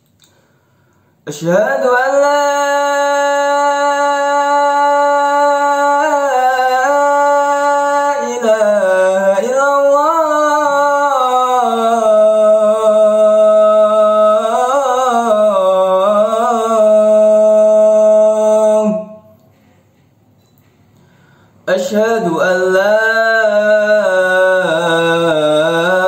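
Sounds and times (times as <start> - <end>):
man singing call to prayer: 1.2 - 19.4, 21.6 - 26.0.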